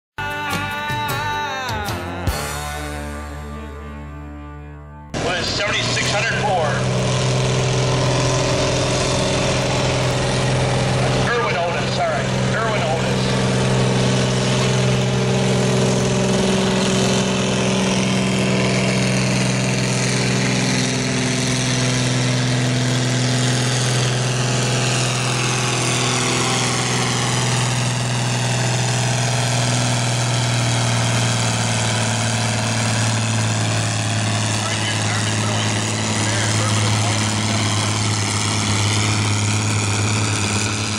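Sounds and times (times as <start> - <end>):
tractor diesel engine under load: 0.2 - 4.0, 5.1 - 40.9.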